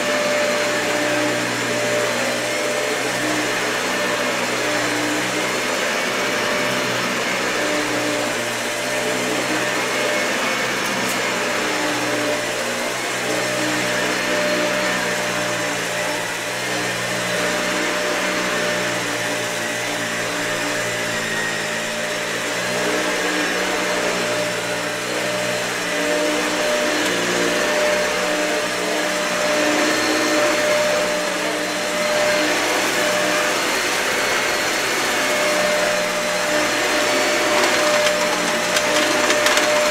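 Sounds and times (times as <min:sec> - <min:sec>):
vacuum cleaner running over carpet: 0:00.0 - 0:39.9.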